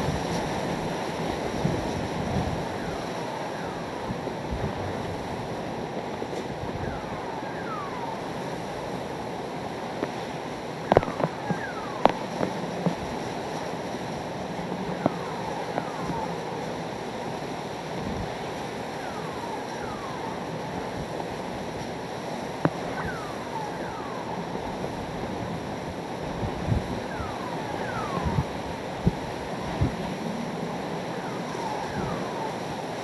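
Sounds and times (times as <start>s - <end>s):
wind and driving rain roaring: 0.0s - 33.0s.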